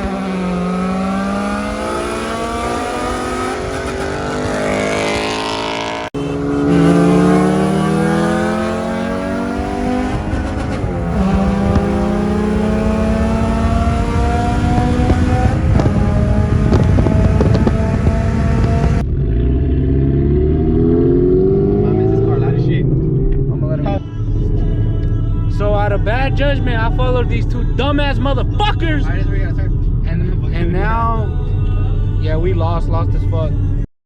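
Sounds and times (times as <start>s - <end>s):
car engine accelerating: 0.0s - 33.8s.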